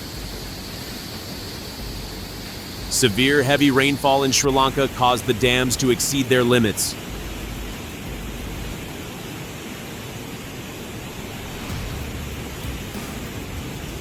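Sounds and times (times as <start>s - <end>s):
water rushing over dam: 0.0s - 14.0s.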